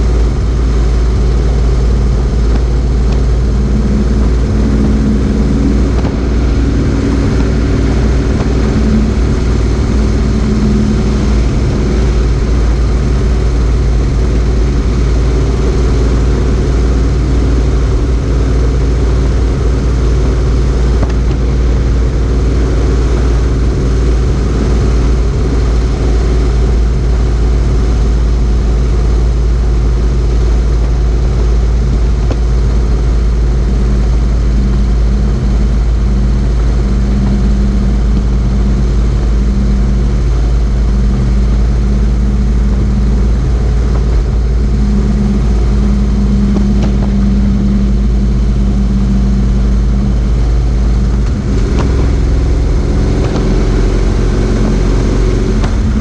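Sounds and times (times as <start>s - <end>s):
motorcycle engine running: 0.0s - 56.0s
wind rushing on microphone: 0.0s - 56.0s.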